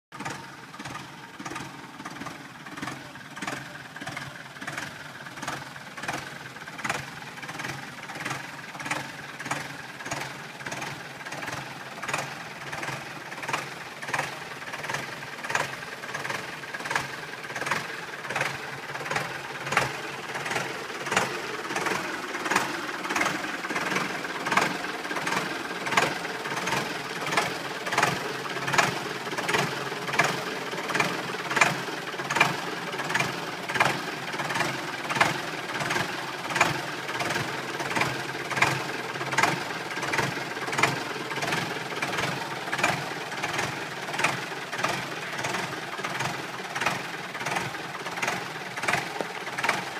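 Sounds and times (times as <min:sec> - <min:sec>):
regular engine knock: 0:00.1 - 0:49.9
tractor diesel engine running: 0:00.1 - 0:49.9.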